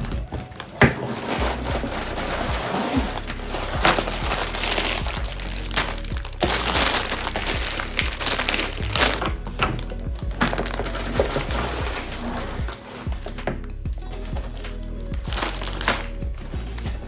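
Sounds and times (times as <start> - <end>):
background music: 0.0 - 17.0
packaging crinkling and rustling: 0.0 - 17.0.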